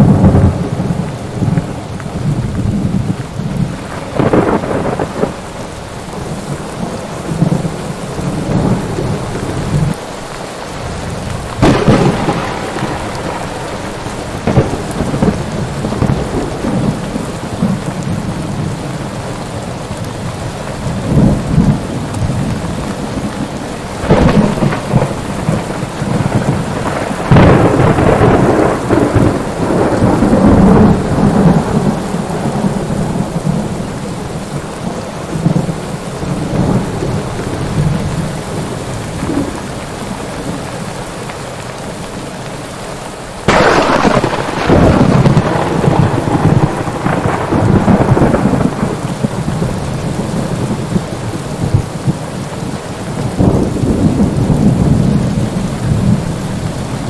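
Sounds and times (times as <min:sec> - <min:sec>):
thunder cracks and rumbling: 0:00.0 - 0:10.0, 0:10.8 - 0:19.0, 0:20.8 - 0:39.7, 0:43.4 - 0:57.0
heavy rain: 0:00.0 - 0:57.0.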